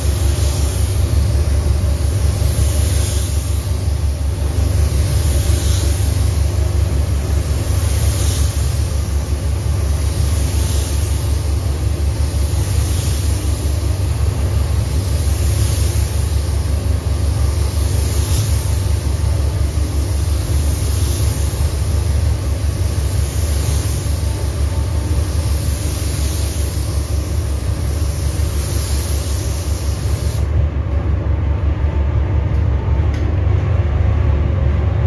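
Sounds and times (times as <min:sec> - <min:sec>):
spray gun hissing: 0:00.0 - 0:30.5
low rumble of moving air: 0:00.0 - 0:35.0.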